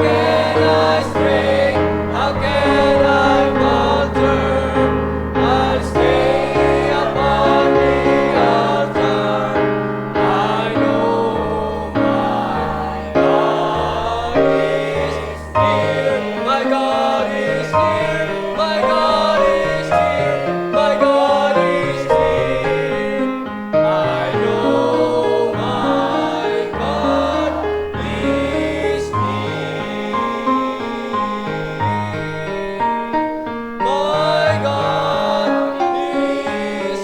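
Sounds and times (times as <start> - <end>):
instrumental accompaniment: 0.0 - 36.8
choir singing a gospel hymn: 0.0 - 37.0.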